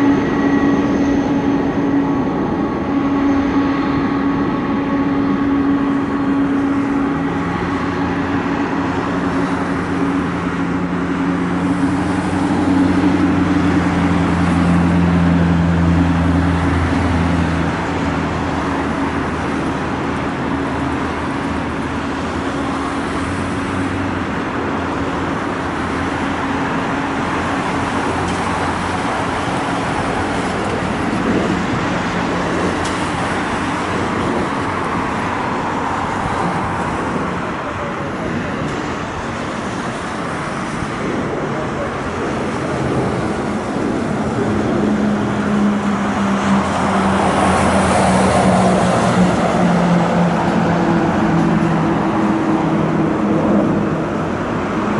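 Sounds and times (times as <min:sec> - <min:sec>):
jet engine rush: 0:00.0 - 0:54.9
jet engines droning: 0:00.0 - 0:54.9.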